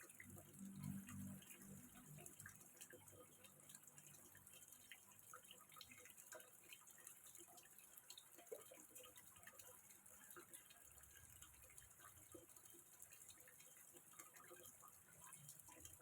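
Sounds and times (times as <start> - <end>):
water trickling into pond: 0.0 - 16.0.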